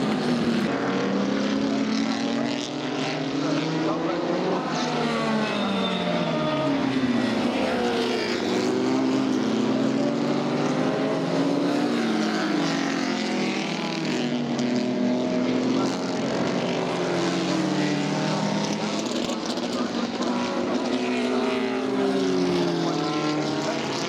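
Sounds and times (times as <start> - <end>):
racing car engines revving: 0.0 - 24.0.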